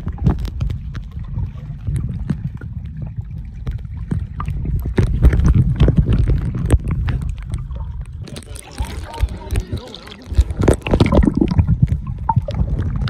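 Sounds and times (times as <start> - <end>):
muffled underwater rumble: 0.0 - 13.0
sharp clicks and crackles: 0.0 - 13.0.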